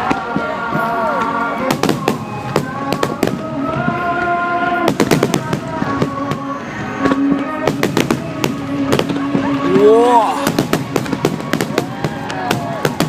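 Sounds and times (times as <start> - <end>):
music with long held notes: 0.0 - 12.4
fireworks bangs and crackles: 0.0 - 13.0.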